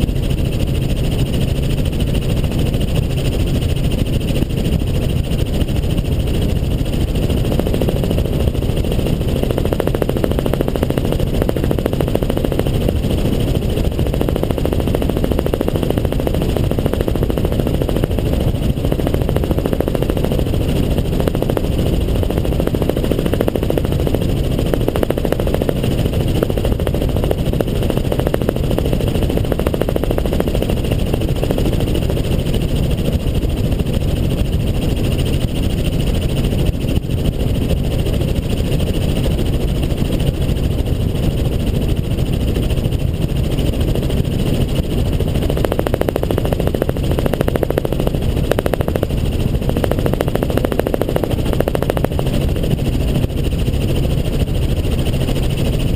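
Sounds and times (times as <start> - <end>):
helicopter engine and rotor noise: 0.0 - 55.9.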